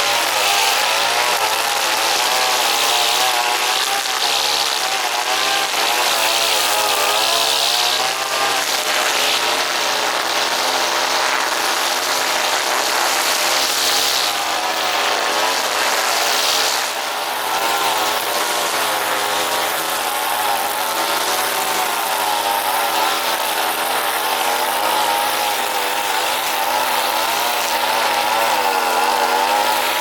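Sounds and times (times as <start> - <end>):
brush cutter engine revving: 0.0 - 30.0.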